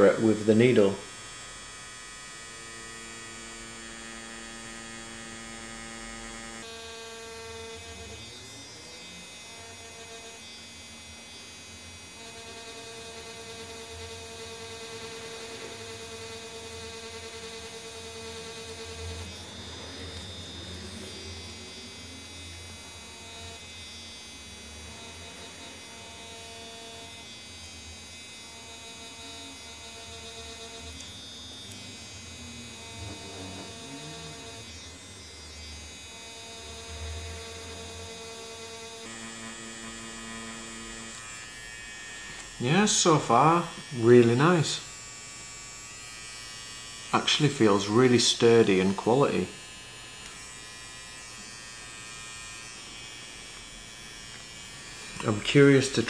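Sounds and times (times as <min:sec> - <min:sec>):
tattoo machine humming: 0:00.0 - 0:56.0.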